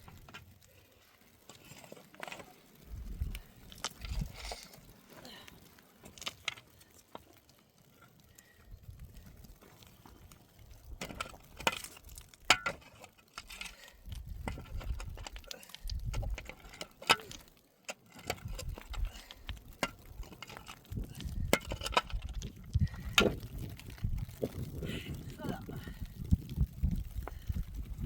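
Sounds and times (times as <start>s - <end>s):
small hard objects clinking: 0.0s - 28.0s.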